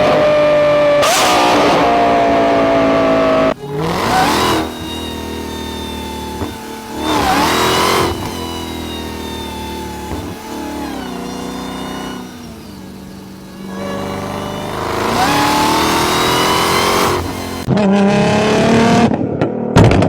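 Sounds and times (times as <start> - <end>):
louder engine: 0.0 - 19.4
car engine revving: 0.0 - 20.0.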